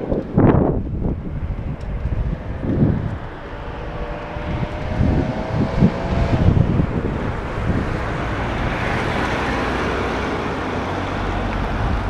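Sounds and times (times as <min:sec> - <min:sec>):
road traffic noise: 0:00.0 - 0:12.0
wind buffeting microphone: 0:00.0 - 0:12.0.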